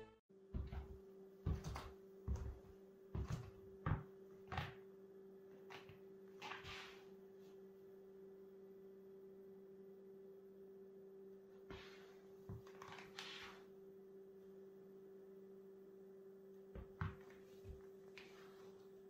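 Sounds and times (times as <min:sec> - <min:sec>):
faint low hum: 0:00.0 - 0:19.0
studded cleats on laminate floor: 0:00.4 - 0:08.3, 0:11.3 - 0:19.0.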